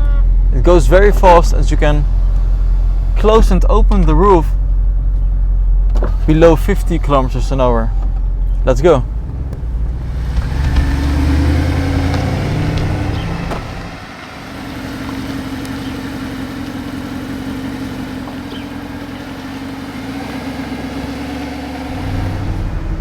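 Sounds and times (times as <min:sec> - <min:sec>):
car engine pulling away: 0:00.0 - 0:23.0.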